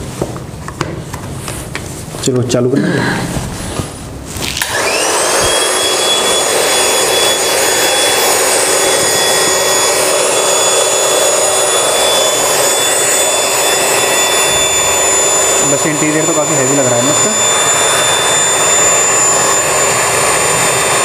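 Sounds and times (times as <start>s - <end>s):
electric air pump whining: 3.4s - 21.0s.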